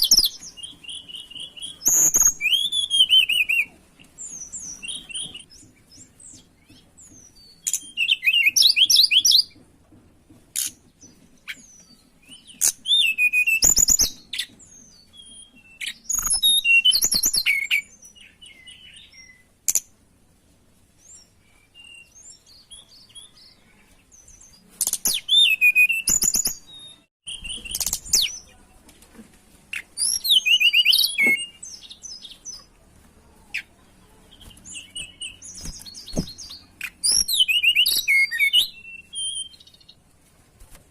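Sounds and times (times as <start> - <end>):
songbird chirping and warbling: 0.0 - 40.9.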